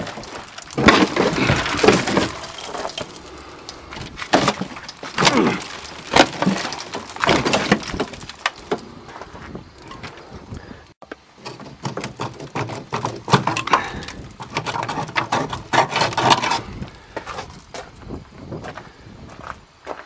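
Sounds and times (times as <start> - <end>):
rough metal scraping: 0.0 - 10.4, 11.4 - 17.6.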